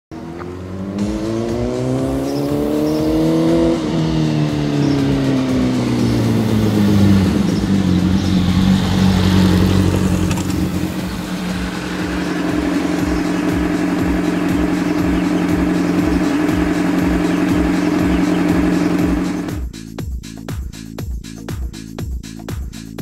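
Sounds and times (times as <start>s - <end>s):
motorcycle engine revving: 0.1s - 19.7s.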